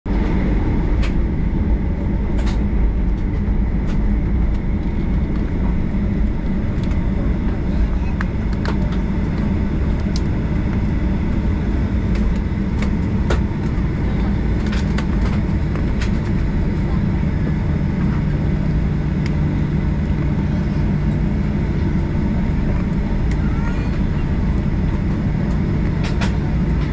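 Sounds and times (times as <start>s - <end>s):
jet engine low rumble: 0.0s - 26.9s
low hum: 0.1s - 26.9s.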